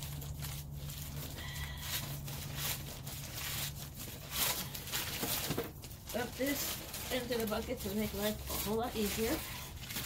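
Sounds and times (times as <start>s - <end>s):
plastic bag rustling and crinkling: 0.0s - 10.0s.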